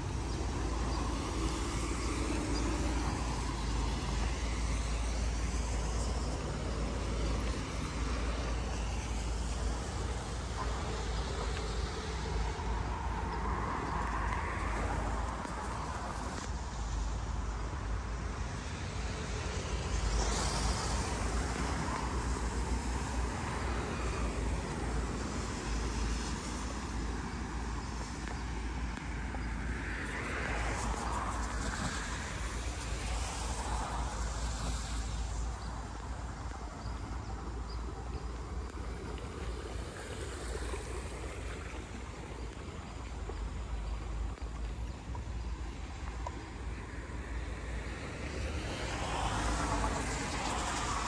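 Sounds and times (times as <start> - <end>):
road traffic passing: 0.0 - 51.0.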